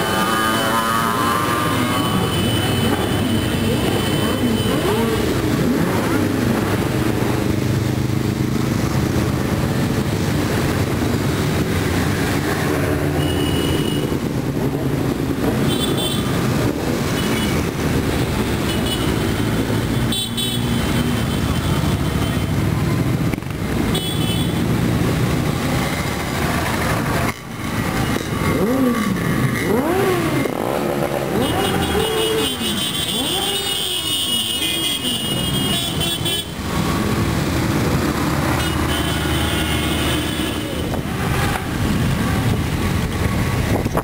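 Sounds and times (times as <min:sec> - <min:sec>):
motorcycles riding past: 0:00.0 - 0:23.9, 0:24.5 - 0:44.0.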